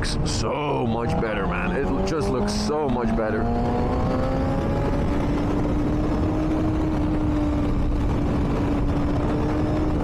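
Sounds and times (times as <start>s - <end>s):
motorcycle engine cruising: 0.0s - 10.0s
wind and road noise: 0.0s - 10.0s.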